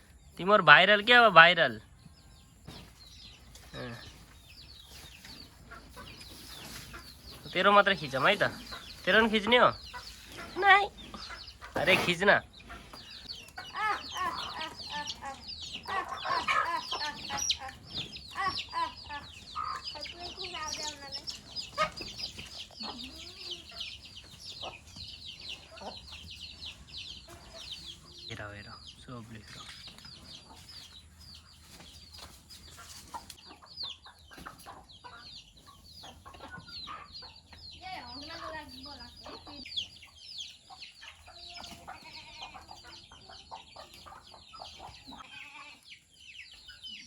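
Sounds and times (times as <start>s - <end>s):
chickens clucking and calling: 0.0s - 47.0s.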